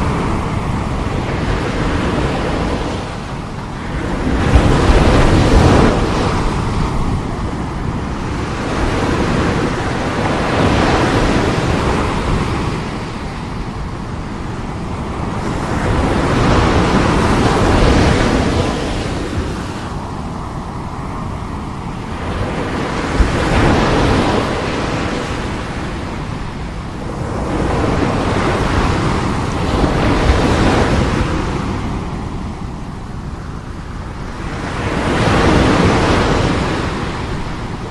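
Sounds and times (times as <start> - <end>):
sea waves breaking: 0.0 - 37.9
wind on microphone: 0.0 - 37.9.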